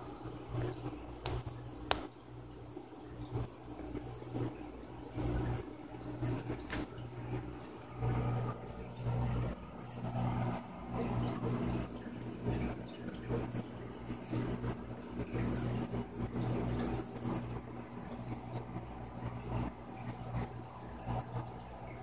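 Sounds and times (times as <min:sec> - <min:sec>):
aquarium pump humming: 0:00.0 - 0:22.0
water trickling and sloshing: 0:00.0 - 0:22.0.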